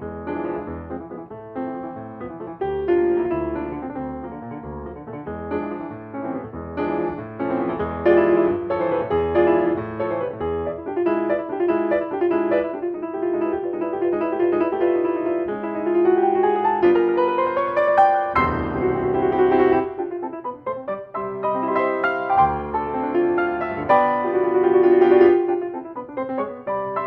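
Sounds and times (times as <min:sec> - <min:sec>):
solo piano classical piece: 0:00.0 - 0:27.0.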